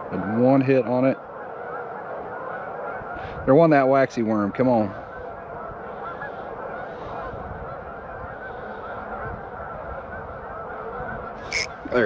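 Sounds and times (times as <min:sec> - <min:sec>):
flock of waterfowl honking: 0:00.0 - 0:12.0.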